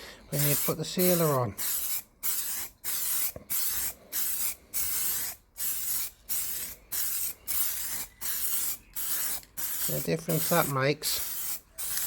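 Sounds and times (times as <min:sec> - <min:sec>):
spray can hissing bursts: 0:00.4 - 0:12.0.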